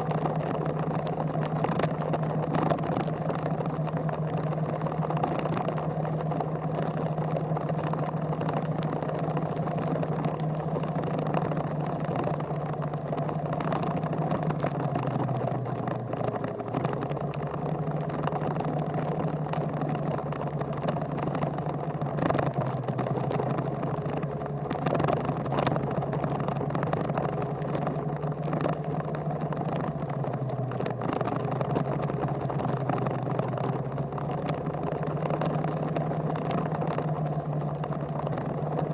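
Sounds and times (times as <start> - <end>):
vehicle engine humming: 0.0 - 38.9.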